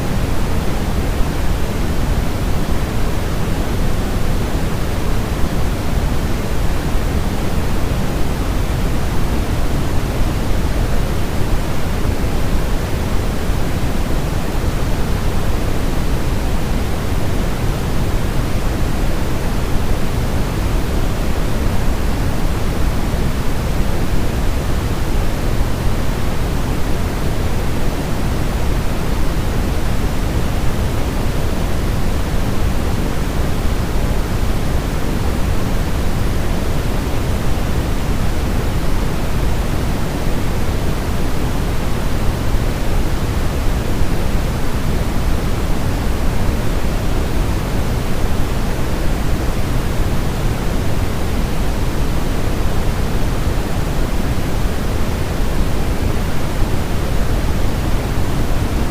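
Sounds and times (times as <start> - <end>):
synthetic white noise hiss: 0.0 - 58.9.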